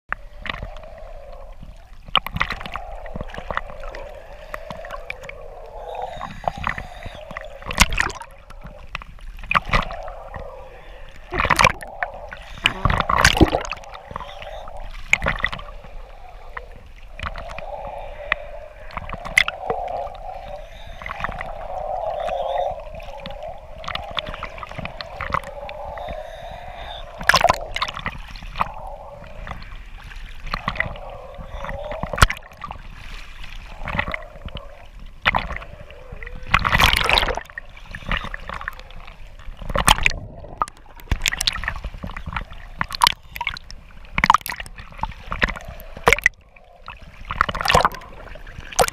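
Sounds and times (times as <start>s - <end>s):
sea water sloshing and gurgling: 0.1s - 48.9s
waves splashing: 0.1s - 48.9s.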